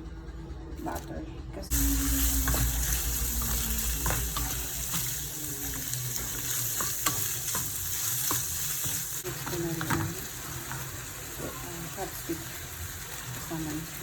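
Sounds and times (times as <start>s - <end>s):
rice sizzling in a pan: 1.7s - 14.0s.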